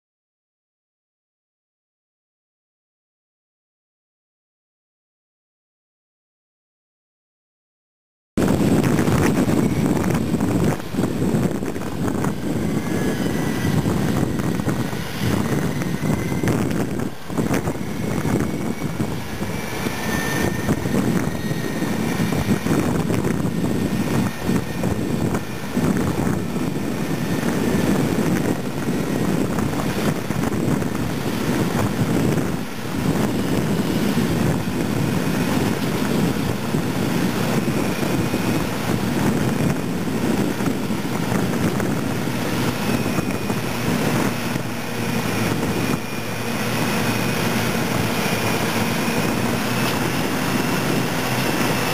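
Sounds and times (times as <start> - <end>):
faint high whine: 8.4 - 51.9
heavy diesel engines under load: 8.4 - 51.9.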